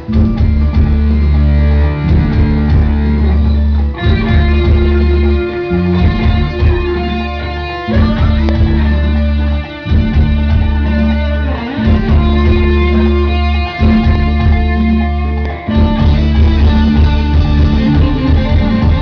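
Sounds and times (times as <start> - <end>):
electric guitar: 0.0 - 19.0
heavy bass: 0.0 - 19.0
live band playing: 0.0 - 19.0.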